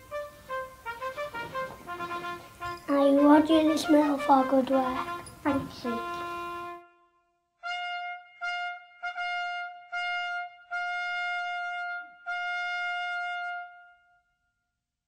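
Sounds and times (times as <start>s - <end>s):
trumpet fanfare: 0.0s - 14.2s.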